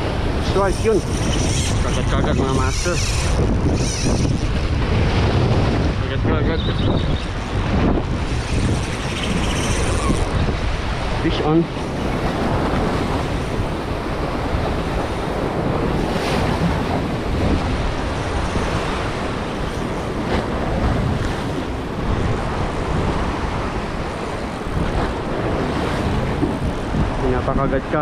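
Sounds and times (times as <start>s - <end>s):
sea waves breaking: 0.0s - 28.0s
wind buffeting microphone: 0.0s - 28.0s.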